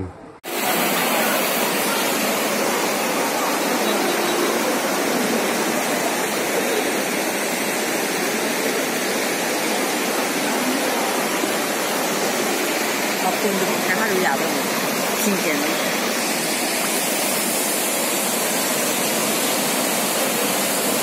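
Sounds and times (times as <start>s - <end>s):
floodwater rushing: 0.4s - 21.0s.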